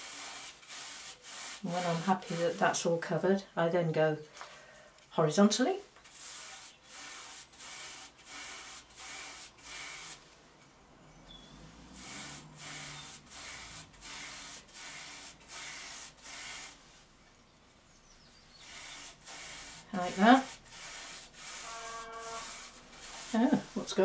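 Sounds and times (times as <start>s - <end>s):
brush scraping cane seat: 0.0s - 2.9s, 6.0s - 10.4s, 11.2s - 17.4s, 18.1s - 24.0s.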